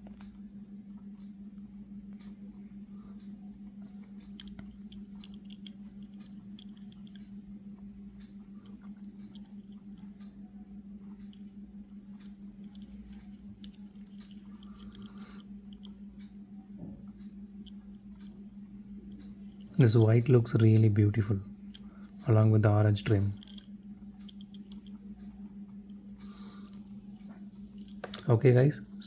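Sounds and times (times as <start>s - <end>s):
low electrical hum: 0.0s - 29.0s
small clicks: 3.2s - 10.4s, 11.0s - 28.3s.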